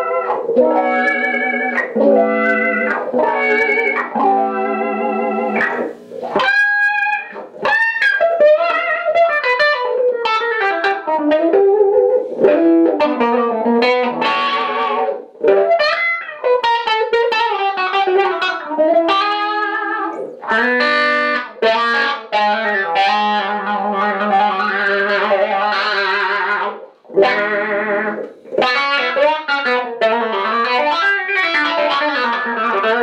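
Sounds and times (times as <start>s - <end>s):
electric guitar with wah pedal: 0.0s - 33.0s.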